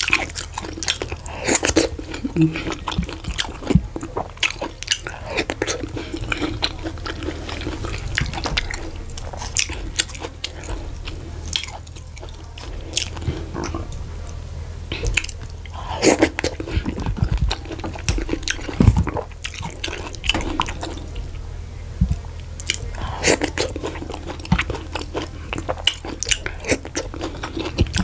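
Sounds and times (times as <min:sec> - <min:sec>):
chewing with wet mouth smacks: 0:00.0 - 0:21.4, 0:22.0 - 0:28.0.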